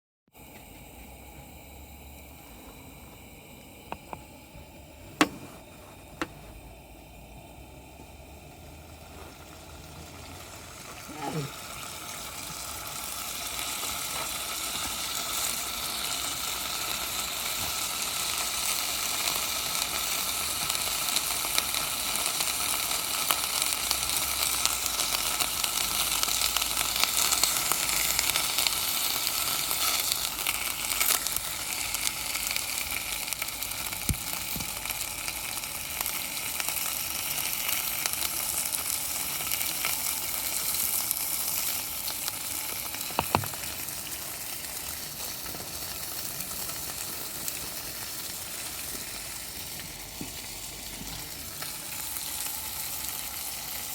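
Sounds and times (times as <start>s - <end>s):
food sizzling with spitting pops: 0.4s - 53.9s.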